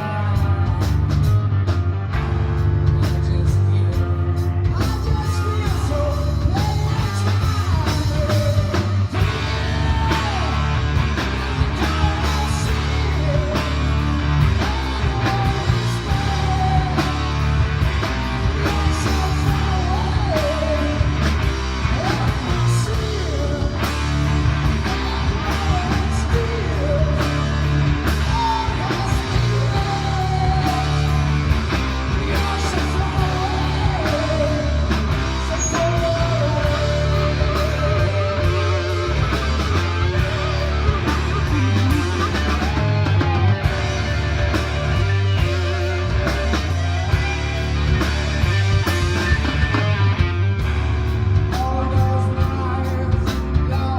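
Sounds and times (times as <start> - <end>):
rock music with bass guitar drums: 0.0 - 53.9
sliding lead melody: 0.4 - 51.6.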